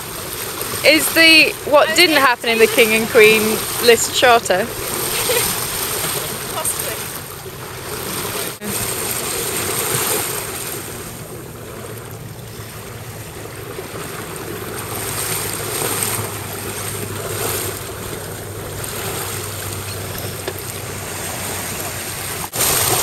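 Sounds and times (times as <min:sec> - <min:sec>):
water rushing along hull: 0:00.0 - 0:23.0.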